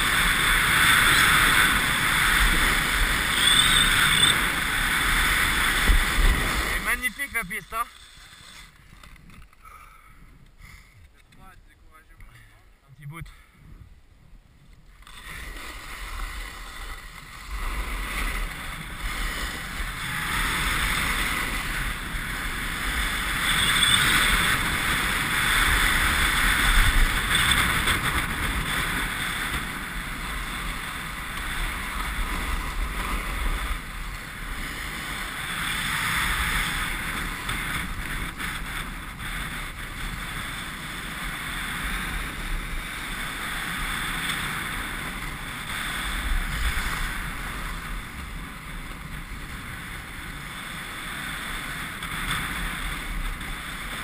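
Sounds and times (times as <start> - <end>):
snowboard scraping on snow: 0.0 - 9.2, 14.9 - 54.0
wind rushing over microphone: 0.0 - 12.1, 13.0 - 54.0.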